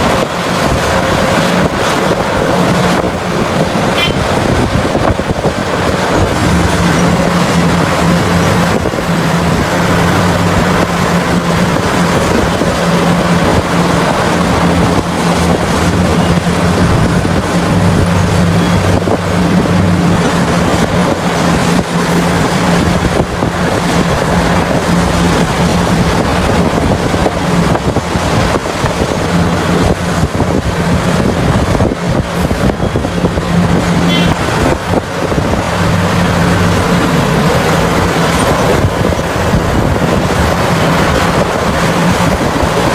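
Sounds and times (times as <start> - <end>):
large diesel engine droning: 0.0 - 42.9
wind buffeting microphone: 0.0 - 42.9.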